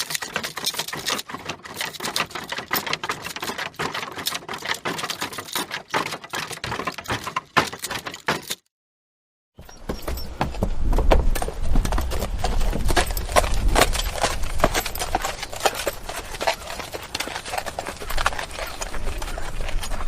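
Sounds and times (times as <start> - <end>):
horse hooves clip-clopping: 0.0 - 8.6, 9.6 - 20.0.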